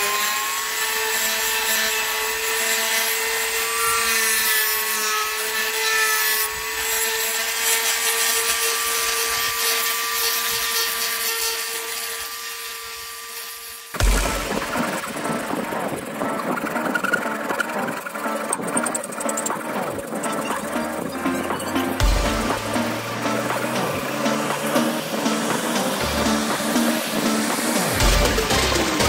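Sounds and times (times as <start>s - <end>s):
router whining cutting plastic: 0.0s - 29.0s.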